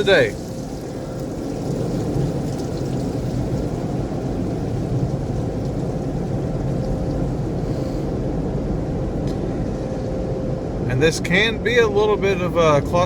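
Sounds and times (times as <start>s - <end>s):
faint steady hum: 0.0s - 13.0s
muffled car wash machinery rumble: 0.0s - 13.0s.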